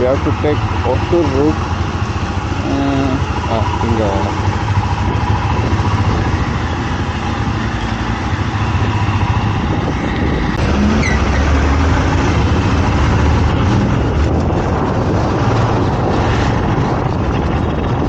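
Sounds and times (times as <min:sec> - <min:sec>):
motorcycle engine running: 0:00.0 - 0:18.0
ride wind noise: 0:00.0 - 0:18.0.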